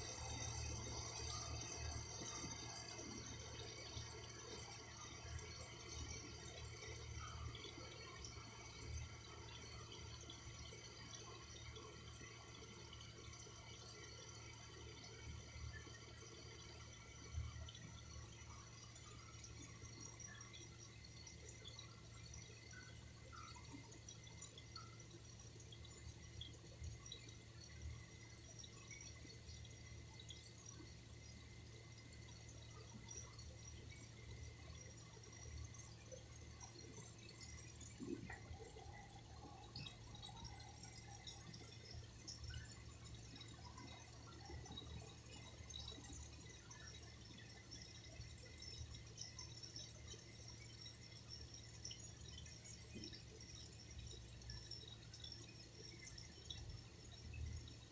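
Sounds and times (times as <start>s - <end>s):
faint water trickling: 0.0s - 57.9s
small water drips: 0.0s - 57.9s.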